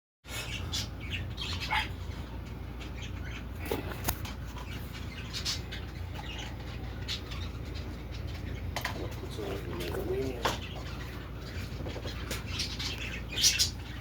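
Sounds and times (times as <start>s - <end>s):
birds calling: 0.2s - 14.0s.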